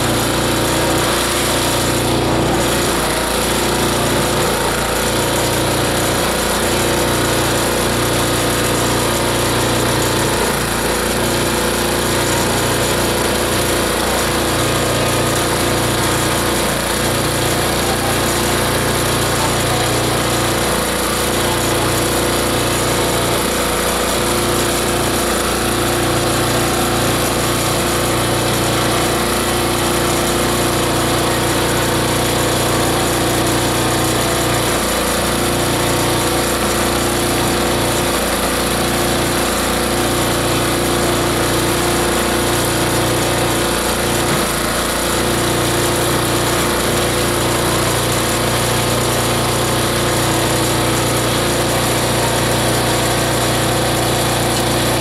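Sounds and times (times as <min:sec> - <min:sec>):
grinder running: 0:00.0 - 0:55.0.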